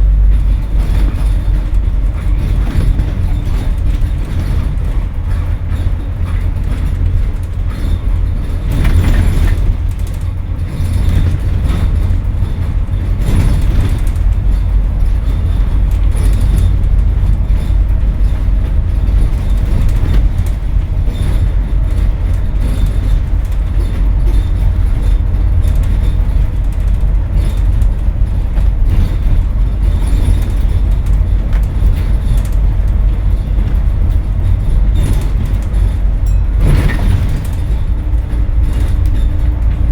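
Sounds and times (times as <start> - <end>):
bus diesel engine accelerating: 0.0 - 39.9
road and body rumble: 0.0 - 39.9.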